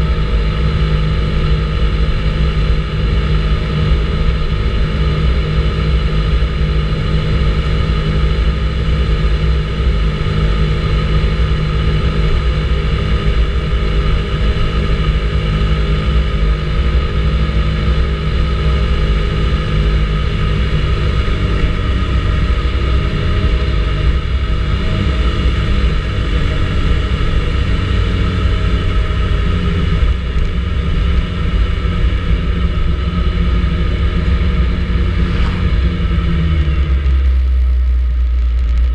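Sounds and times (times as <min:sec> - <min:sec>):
scooter engine running: 0:00.0 - 0:38.9
wind rumble on microphone: 0:00.0 - 0:38.9.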